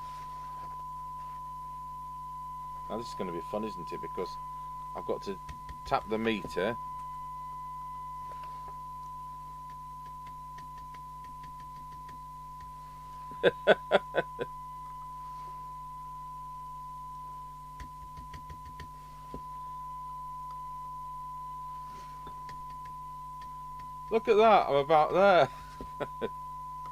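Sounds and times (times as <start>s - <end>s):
high test tone from radio speaker: 0.0s - 26.9s
low hum: 0.0s - 26.9s.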